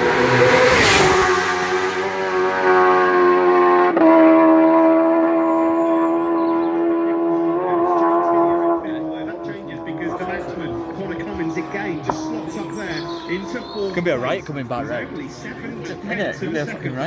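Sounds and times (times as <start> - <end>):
motorbike passing by: 0.0 - 17.0.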